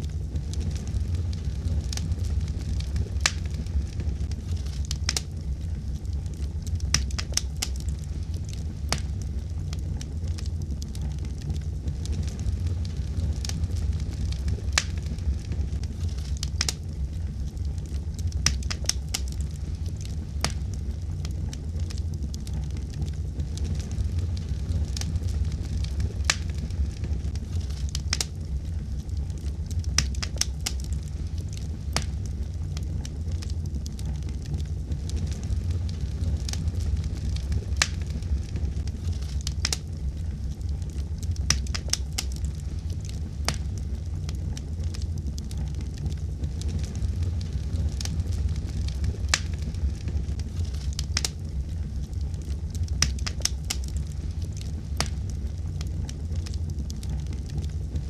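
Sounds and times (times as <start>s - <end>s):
fireplace flames rumbling: 0.0s - 58.0s
wood fire crackling and popping: 0.0s - 58.0s.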